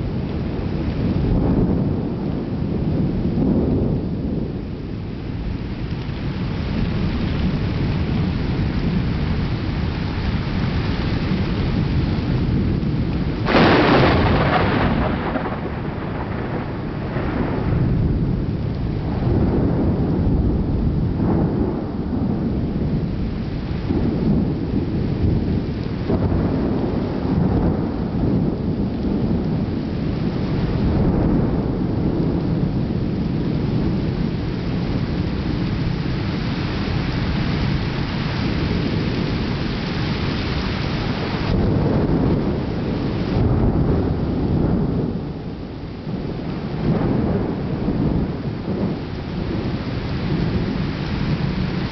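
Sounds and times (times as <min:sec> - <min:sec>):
steady rain: 0:00.0 - 0:51.9
thunder rumbling: 0:00.0 - 0:51.9.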